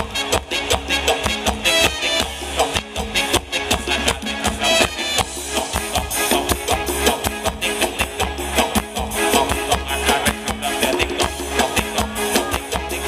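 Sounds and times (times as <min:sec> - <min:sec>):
drum kit beat: 0:00.0 - 0:13.0
upbeat dance band playing: 0:00.0 - 0:13.0.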